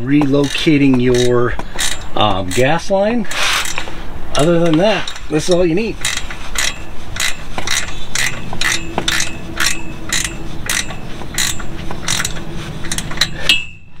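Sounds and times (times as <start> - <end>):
ratchet wrench clicking: 0.2 - 2.9, 3.5 - 13.8.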